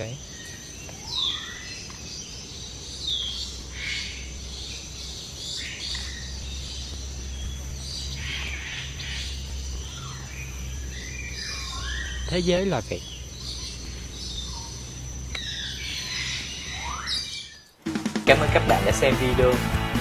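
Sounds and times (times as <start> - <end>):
birds chirping and squawking: 0.0 - 19.5.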